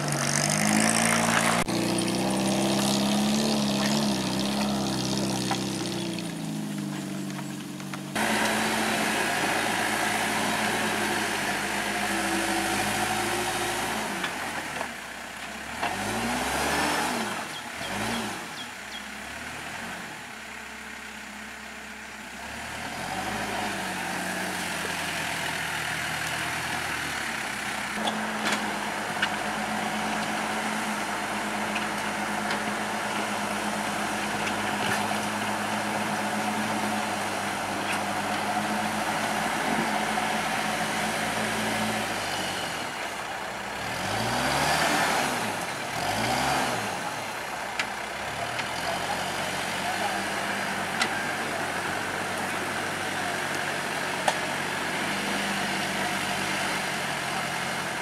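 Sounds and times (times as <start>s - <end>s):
vehicle engine running: 0.0s - 58.0s
vehicles passing close by: 0.0s - 58.0s.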